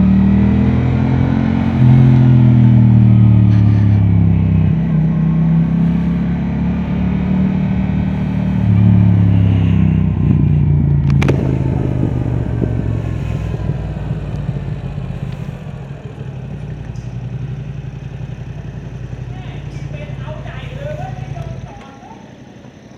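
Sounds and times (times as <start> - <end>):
motorcycle engine idling low: 0.0 - 22.9.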